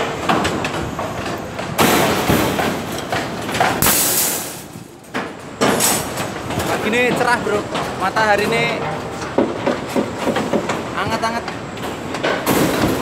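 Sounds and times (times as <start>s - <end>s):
steady noisy background: 0.0s - 13.0s.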